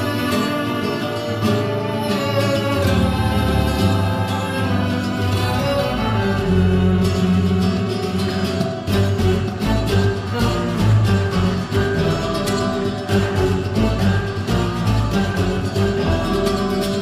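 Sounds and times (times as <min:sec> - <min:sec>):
pasodoble music: 0:00.0 - 0:17.0.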